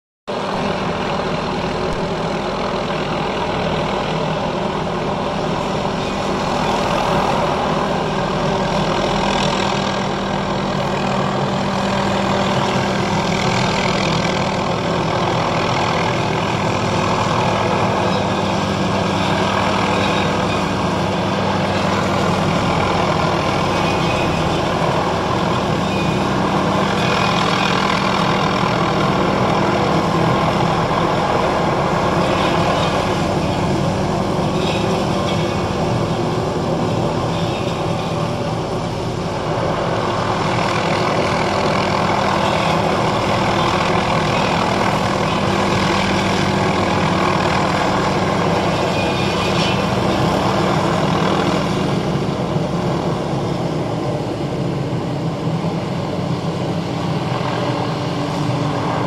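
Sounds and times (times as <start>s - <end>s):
helicopter engine and rotor: 0.3s - 59.0s.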